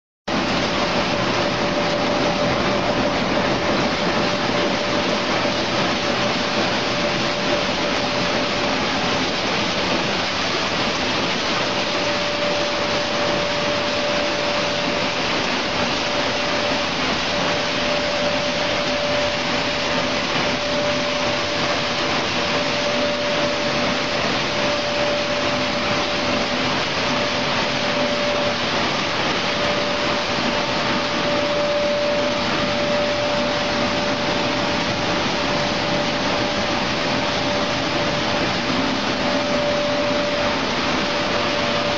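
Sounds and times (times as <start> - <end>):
blower fan and motor rush: 0.3 - 41.9
mid-pitched machine hum: 0.3 - 41.9.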